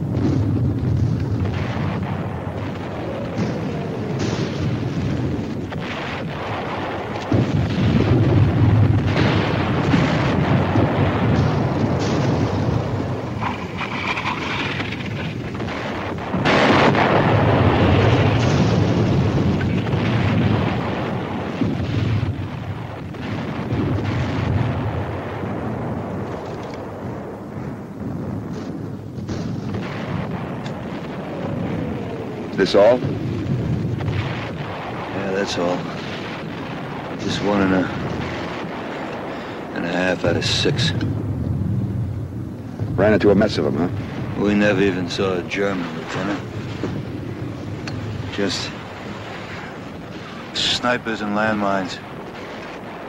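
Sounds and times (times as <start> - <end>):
artillery shells bursting: 0.0 - 53.0.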